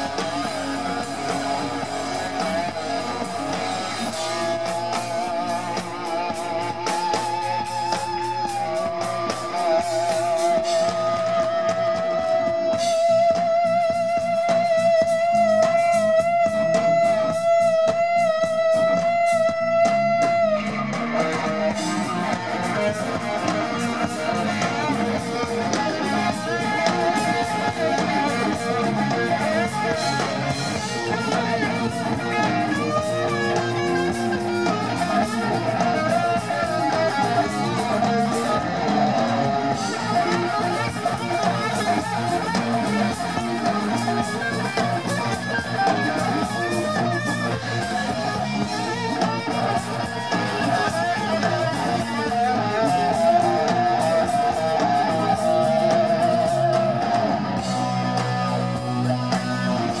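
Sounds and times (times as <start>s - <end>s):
live hard rock band: 0.0s - 60.0s.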